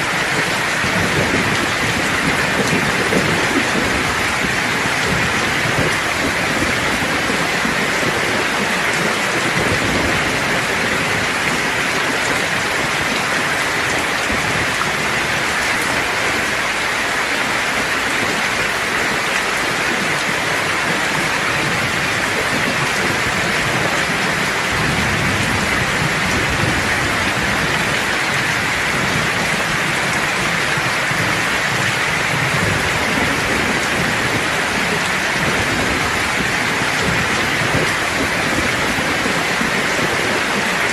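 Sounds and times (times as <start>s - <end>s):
heavy rain hissing: 0.0s - 40.9s
low thunder rumbling: 0.0s - 40.9s.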